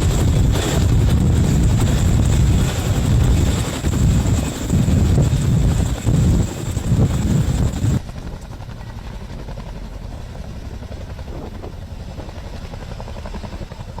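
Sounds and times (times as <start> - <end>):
helicopter high whine: 0.0 - 14.0
helicopter rotor chop: 0.0 - 14.0.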